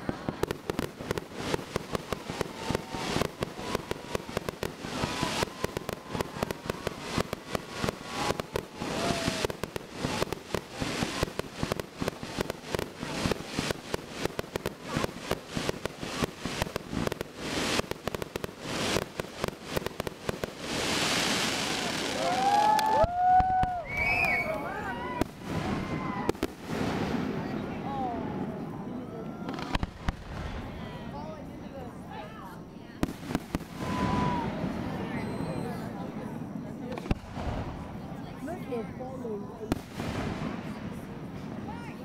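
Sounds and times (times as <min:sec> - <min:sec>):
fireworks popping and banging: 0:00.0 - 0:27.7, 0:29.4 - 0:31.0, 0:33.0 - 0:35.6, 0:36.8 - 0:38.2, 0:39.6 - 0:42.0.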